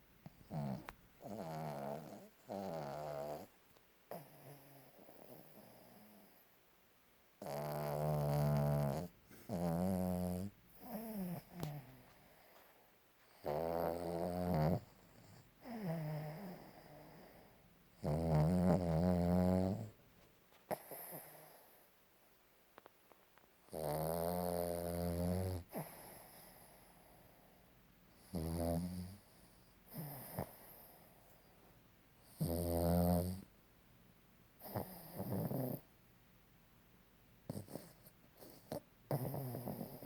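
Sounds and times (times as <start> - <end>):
dog snoring: 0.2 - 6.5, 7.4 - 20.0, 20.7 - 21.9, 23.7 - 31.4, 32.2 - 33.5, 34.6 - 35.9, 37.5 - 40.0.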